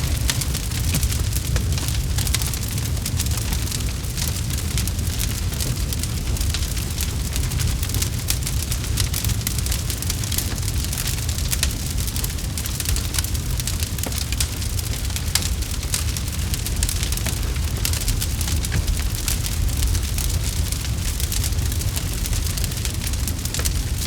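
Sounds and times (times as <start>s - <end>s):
campfire pops and crackles: 0.0s - 24.0s
low rumble of burning wood: 0.0s - 24.0s.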